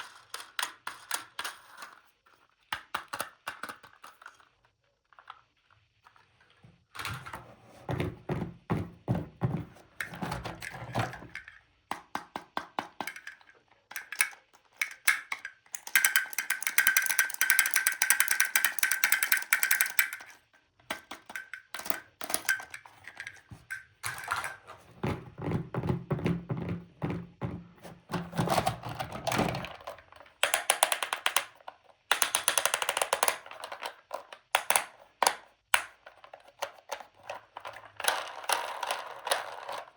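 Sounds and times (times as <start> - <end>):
plastic toys and packaging handled: 0.0 - 39.9.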